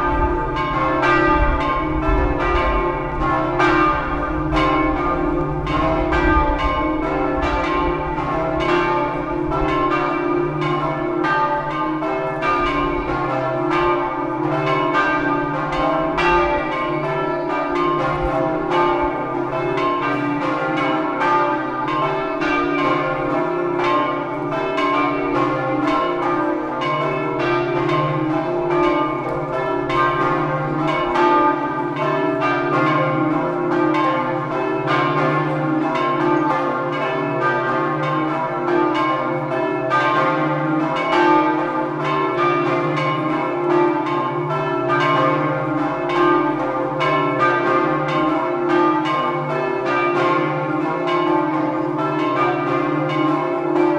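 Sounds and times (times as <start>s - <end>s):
church bells pealing: 0.0s - 53.9s.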